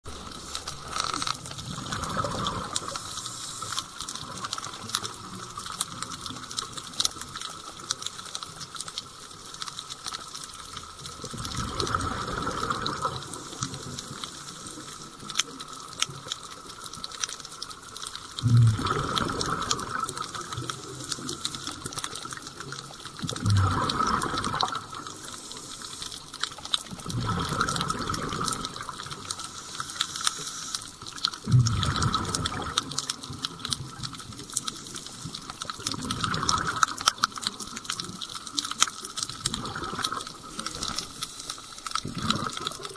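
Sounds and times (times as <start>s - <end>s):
diver's exhaled bubbles underwater: 0.1s - 7.0s, 11.0s - 15.8s, 17.9s - 42.9s
faint clicks: 0.1s - 42.9s.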